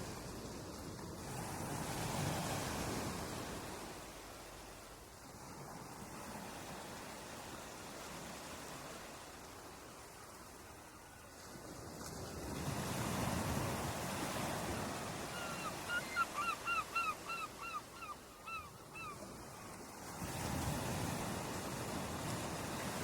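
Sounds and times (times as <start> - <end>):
ocean surf washing ashore: 0.0 - 23.0.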